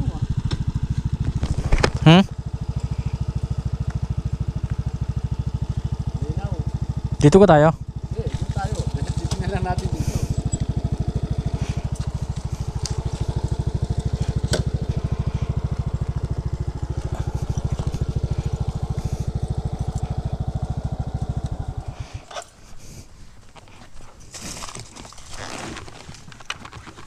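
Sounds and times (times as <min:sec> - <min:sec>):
small motorcycle engine idling: 0:00.0 - 0:23.5.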